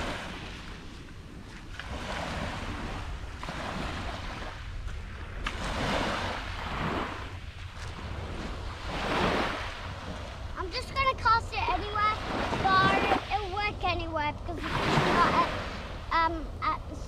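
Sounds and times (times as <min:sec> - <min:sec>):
small waves washing on beach: 0:00.0 - 0:17.0
wind rumble on microphone: 0:00.0 - 0:17.0.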